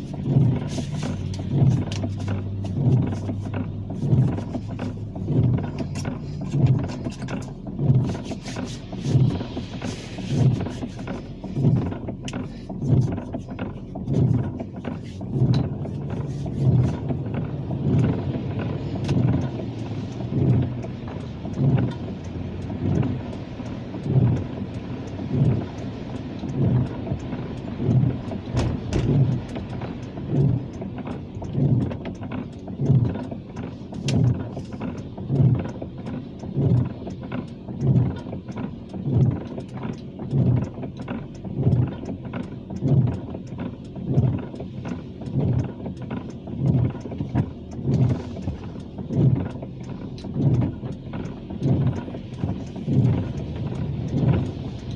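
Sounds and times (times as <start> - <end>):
car engine and road noise: 0.0 - 54.9
windshield wipers thumping: 0.0 - 54.9.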